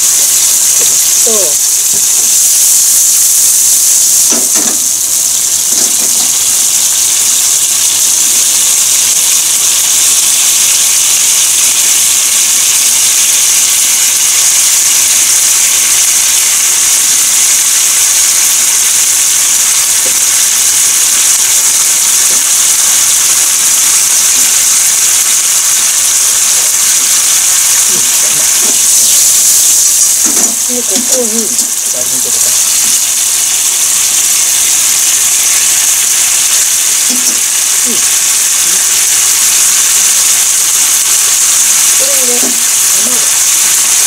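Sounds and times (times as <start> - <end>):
food sizzling in frying pan: 0.0 - 44.0.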